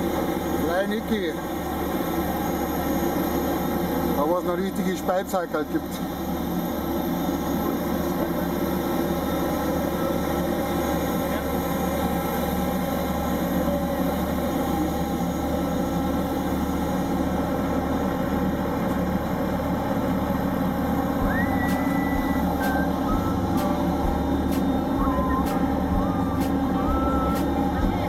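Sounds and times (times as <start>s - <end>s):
airliner machinery humming: 0.0s - 28.0s.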